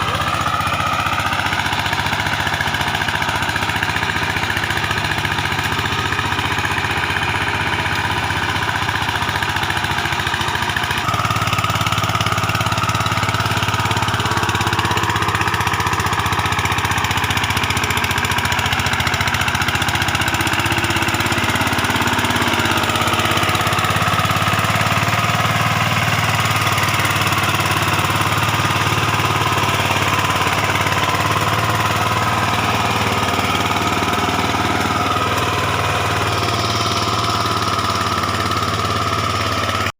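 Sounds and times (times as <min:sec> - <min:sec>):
diesel engine knocking steadily: 0:00.0 - 0:39.9.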